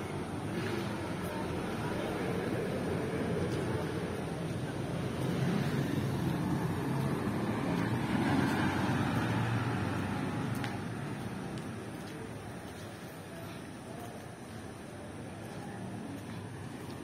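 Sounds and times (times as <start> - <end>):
distant street traffic rumble: 0.0 - 17.0.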